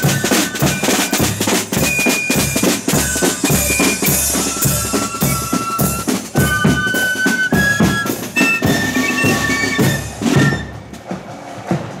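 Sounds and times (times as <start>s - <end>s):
flutes playing a melody: 0.0s - 11.0s.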